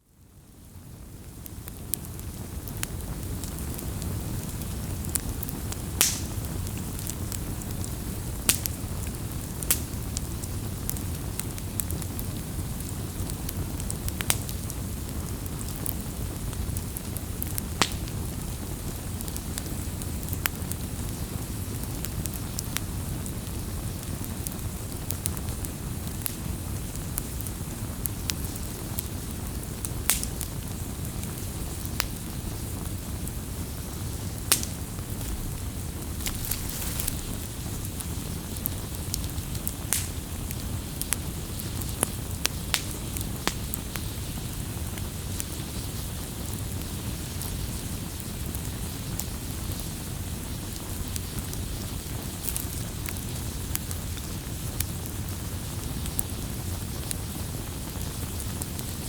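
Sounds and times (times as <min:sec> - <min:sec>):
fire crackles and pops: 0:00.0 - 0:59.0
low rush of flames: 0:00.3 - 0:59.0.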